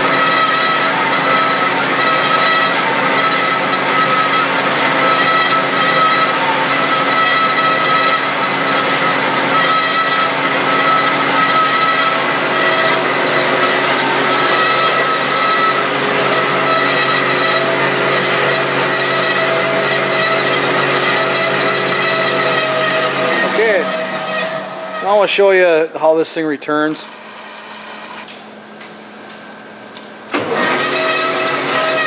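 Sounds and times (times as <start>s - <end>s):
band saw whirring and cutting: 0.0s - 28.6s, 30.3s - 32.0s.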